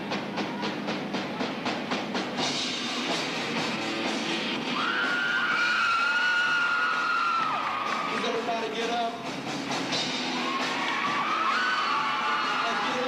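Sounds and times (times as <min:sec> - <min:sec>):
fast drum beat: 0:00.0 - 0:13.0
live rock band: 0:00.0 - 0:13.0.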